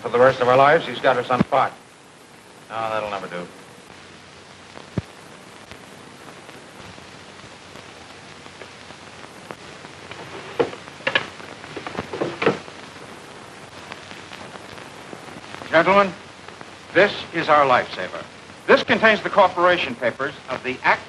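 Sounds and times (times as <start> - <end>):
film soundtrack hiss: 0.0 - 21.0.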